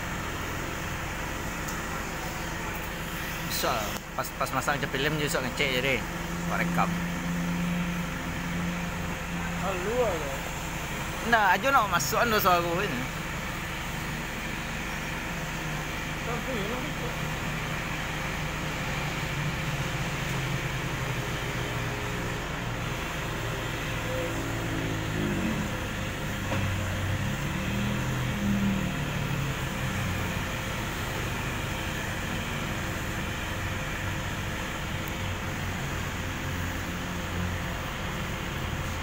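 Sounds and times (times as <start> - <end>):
low engine hum: 0.0 - 39.0.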